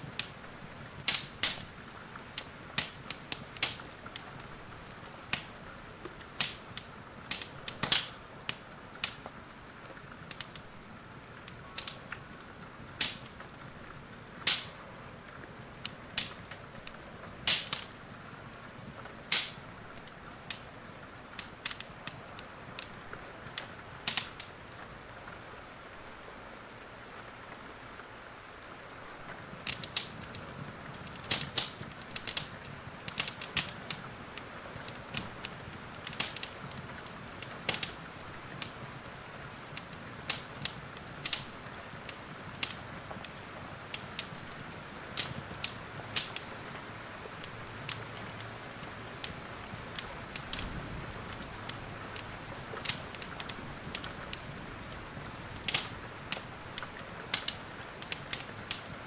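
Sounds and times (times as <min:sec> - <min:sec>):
wood fire crackling and popping: 0:00.0 - 0:25.4, 0:29.0 - 0:59.0
rain hiss: 0:00.0 - 0:59.0.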